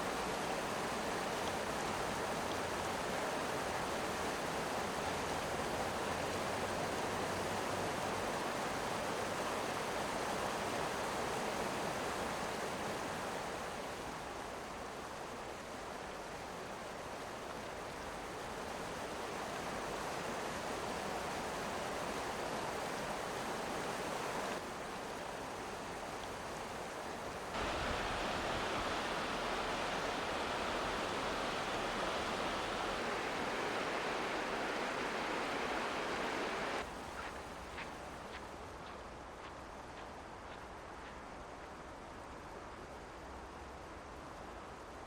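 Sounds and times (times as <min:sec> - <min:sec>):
mountain river rushing: 0:00.0 - 0:45.0.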